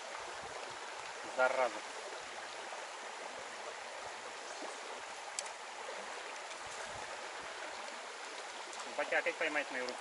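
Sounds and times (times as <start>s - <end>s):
river water over rocks: 0.0s - 10.0s.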